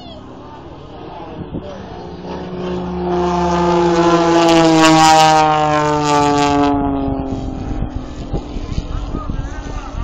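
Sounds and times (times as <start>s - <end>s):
aircraft flying past: 0.0s - 10.0s.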